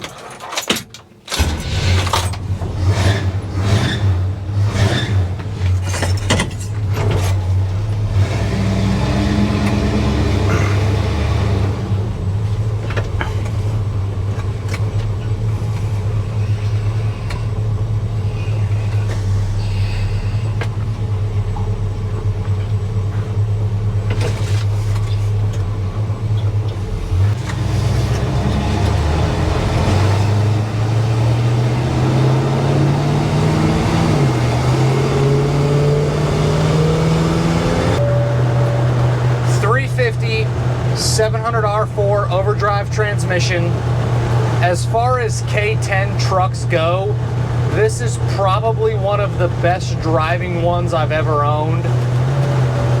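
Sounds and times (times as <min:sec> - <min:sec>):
pickup engine starting and running: 0:00.0 - 0:53.0.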